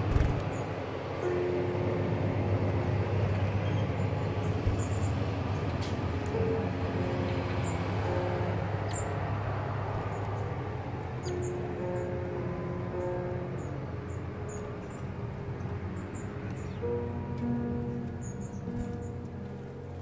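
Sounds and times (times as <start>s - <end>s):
loud steady rumbling: 0.0s - 20.0s.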